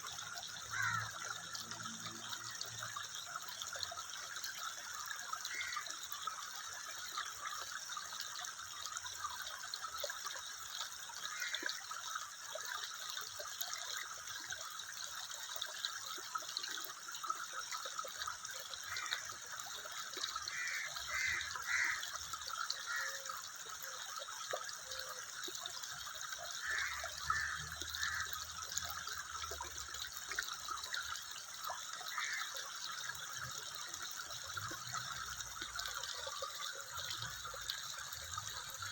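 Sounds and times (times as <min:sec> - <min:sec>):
water gurgles: 0:00.0 - 0:38.9
water trickling and splashing: 0:00.0 - 0:38.9.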